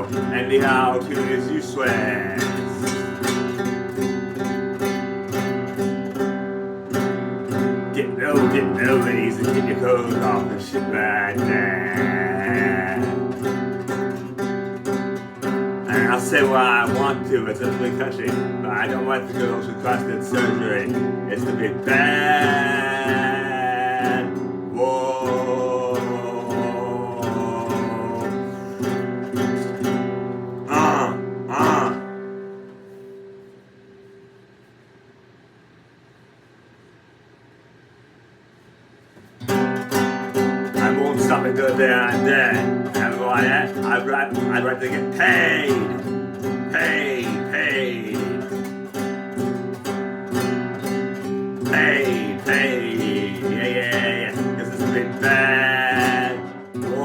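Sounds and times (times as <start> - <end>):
acoustic guitar strumming: 0.0 - 34.4, 39.4 - 57.0.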